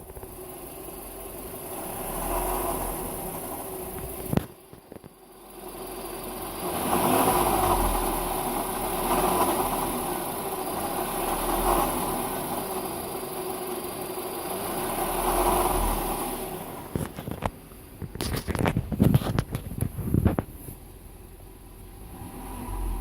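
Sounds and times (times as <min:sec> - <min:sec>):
petrol engine running: 0:00.0 - 0:23.0.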